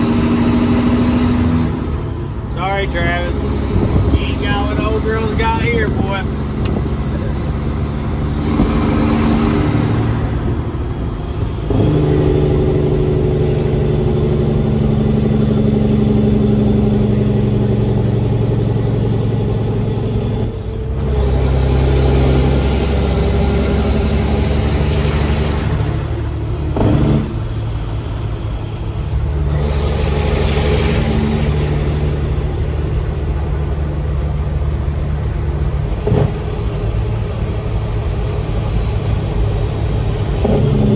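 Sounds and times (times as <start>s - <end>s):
truck diesel engine under load: 0.0s - 40.9s.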